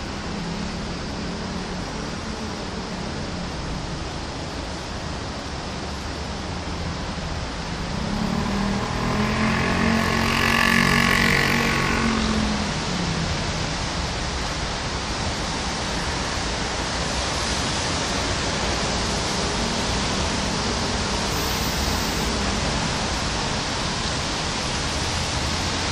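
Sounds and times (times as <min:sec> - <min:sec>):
steady rainfall: 0:00.0 - 0:25.9
vehicle passing on wet street: 0:00.0 - 0:25.9.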